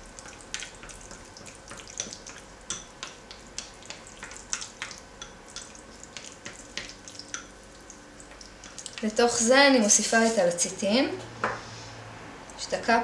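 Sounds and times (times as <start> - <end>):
spatula stirring sticky gel: 0.0 - 10.7.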